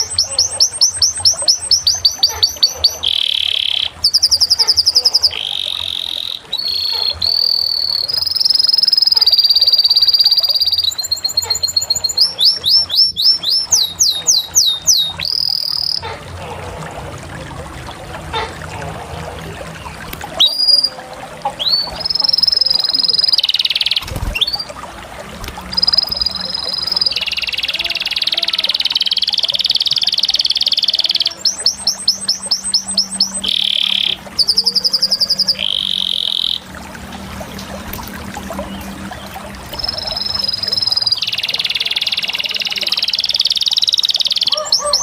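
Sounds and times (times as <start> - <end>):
canary singing: 0.0 - 16.3, 19.4 - 24.8, 25.4 - 37.2, 38.6 - 45.0.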